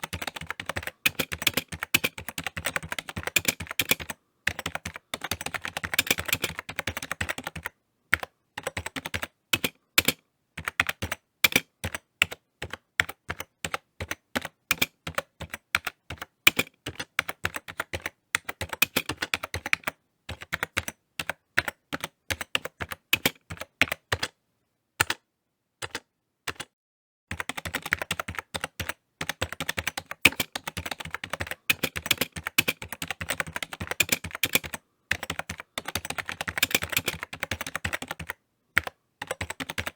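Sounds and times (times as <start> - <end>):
typing on keyboard: 0.0 - 24.4, 25.0 - 25.2, 25.8 - 26.7, 27.3 - 39.9.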